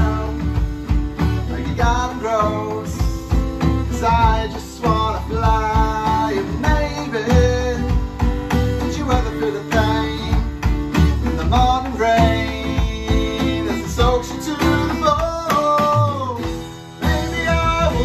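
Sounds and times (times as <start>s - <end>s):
electronic drum rock beat: 0.0s - 18.0s
man singing: 0.0s - 18.0s
strummed acoustic guitar: 0.0s - 18.0s.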